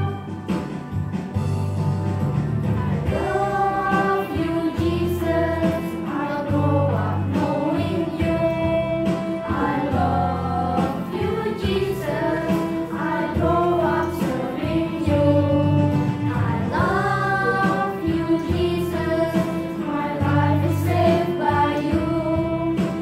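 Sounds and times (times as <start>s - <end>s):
musical accompaniment with bass notes: 0.0s - 23.0s
children's choir singing: 2.8s - 23.0s.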